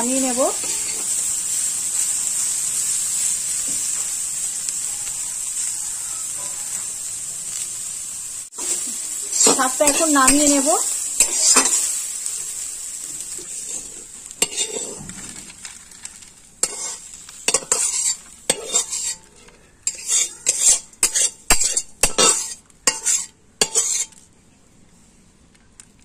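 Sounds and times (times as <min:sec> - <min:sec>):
metal spatula scraping wok: 0:00.0 - 0:07.7, 0:08.6 - 0:24.3
faint sizzle: 0:00.0 - 0:26.0.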